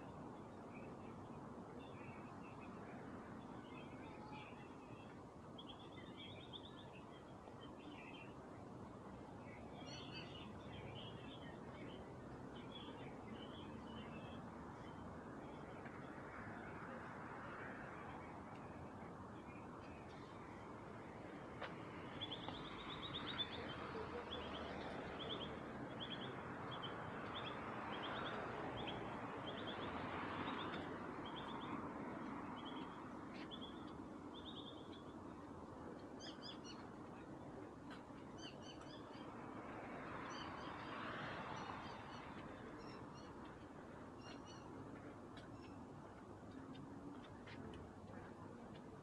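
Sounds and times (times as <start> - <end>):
city background noise: 0.0 - 49.0.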